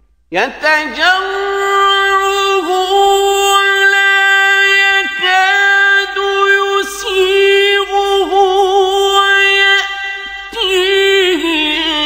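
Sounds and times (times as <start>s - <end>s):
man chanting melodically: 0.3s - 12.0s.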